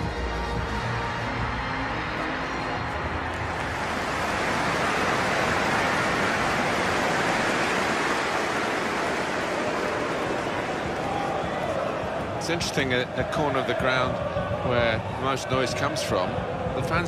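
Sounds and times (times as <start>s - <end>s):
stadium crowd cheering: 0.0s - 17.0s.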